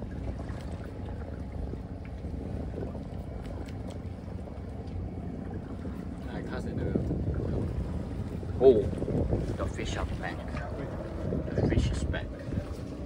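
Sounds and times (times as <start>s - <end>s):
water around boat: 0.0s - 13.0s
wind rumble on microphone: 0.0s - 13.0s.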